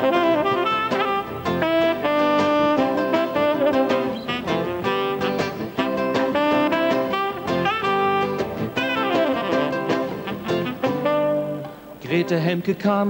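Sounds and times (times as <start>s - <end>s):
saxophone playing jazzy melody: 0.0s - 12.1s
acoustic guitar: 0.0s - 13.0s.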